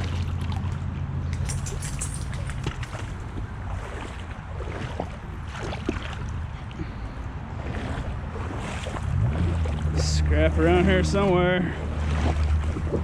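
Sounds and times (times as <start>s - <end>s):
water splashing around wading steps: 0.0s - 13.0s
wind rumbling on microphone: 0.0s - 13.0s.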